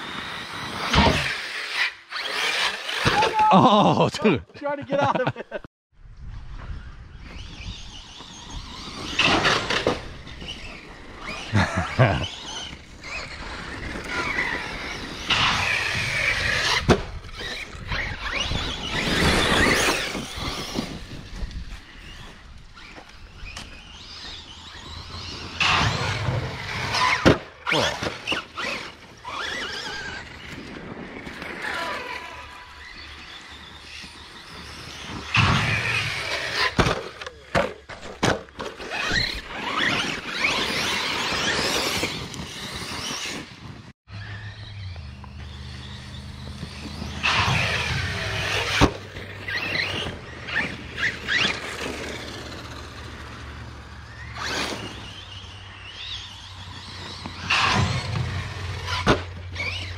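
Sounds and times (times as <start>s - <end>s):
rc truck motors whining: 0.0s - 3.4s, 6.4s - 59.9s
trucks landing and tumbling: 0.1s - 3.5s, 7.1s - 59.9s.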